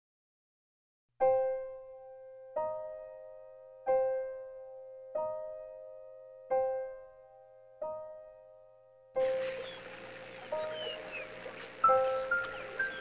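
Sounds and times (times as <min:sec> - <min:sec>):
slow soft solo piano: 0:01.2 - 0:13.0.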